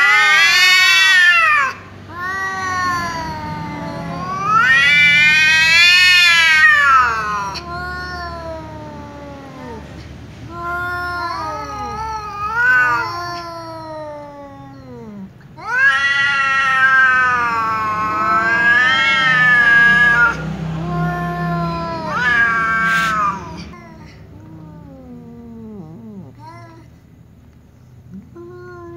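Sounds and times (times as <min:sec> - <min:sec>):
cats yowling: 0:00.0 - 0:27.0.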